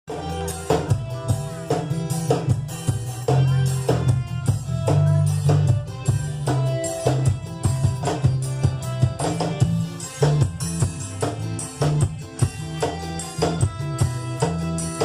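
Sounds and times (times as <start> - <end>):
drum kit beat: 0.1 - 15.0
heavy bass line: 0.1 - 15.0
live band playing: 0.1 - 15.0.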